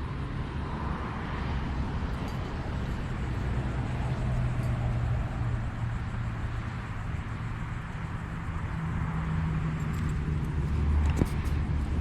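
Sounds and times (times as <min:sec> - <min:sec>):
low engine hum: 0:00.0 - 0:12.0
road noise: 0:00.0 - 0:12.0.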